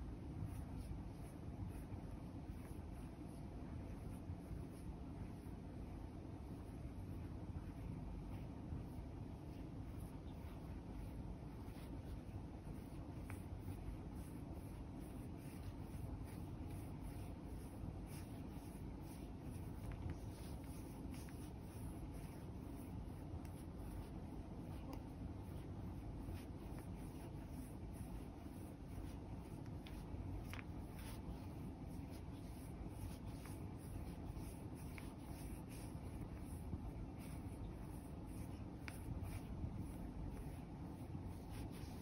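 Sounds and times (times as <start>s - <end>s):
massage roller rubbing fur: 0.1s - 42.0s.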